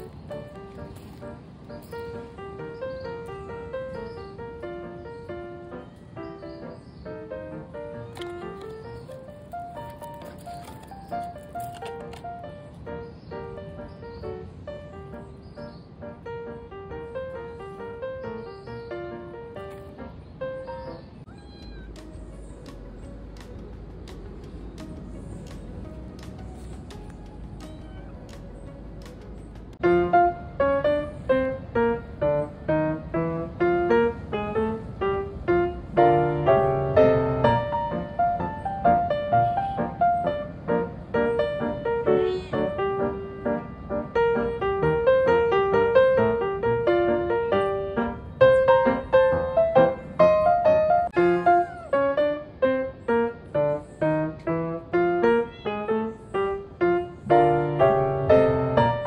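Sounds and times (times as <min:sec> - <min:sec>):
piano melody: 0:00.0 - 0:59.0.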